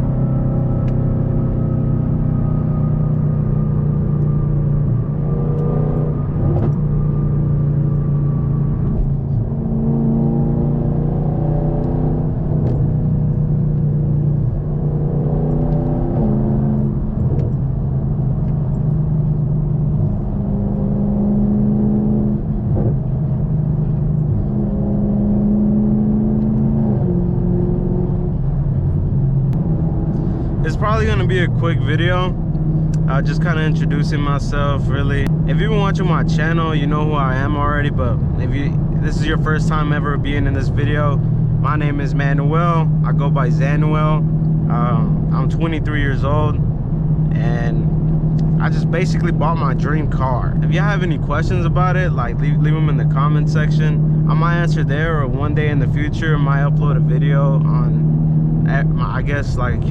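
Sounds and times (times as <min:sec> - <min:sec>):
car engine shifting gears: 0:00.0 - 0:59.9.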